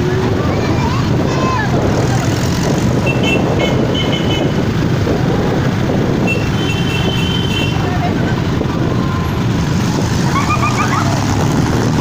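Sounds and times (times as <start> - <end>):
motorcycle engines passing: 0.0 - 12.0.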